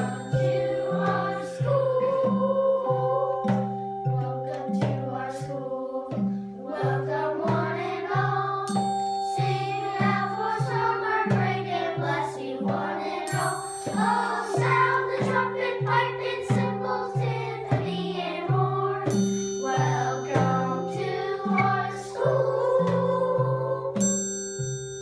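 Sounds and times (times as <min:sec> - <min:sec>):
children singing in unison: 0:00.0 - 0:24.1.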